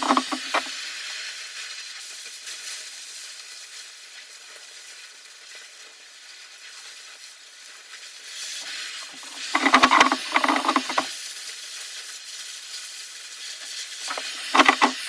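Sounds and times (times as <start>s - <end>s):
cutting torch hissing and crackling: 0.0s - 15.0s.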